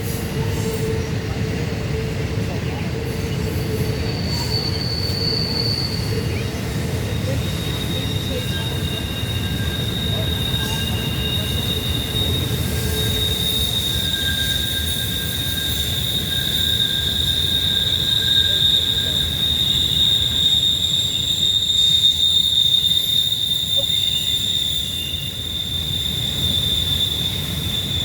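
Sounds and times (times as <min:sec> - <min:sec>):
low rumble of rolling train: 0:00.0 - 0:28.0
train wheels squealing on rails: 0:00.0 - 0:28.0.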